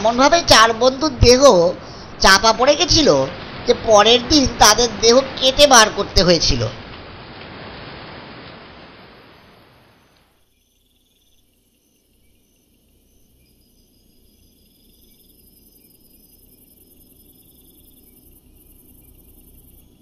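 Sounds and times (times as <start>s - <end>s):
crickets chirping: 0.0s - 20.0s
rain hiss: 0.0s - 20.0s.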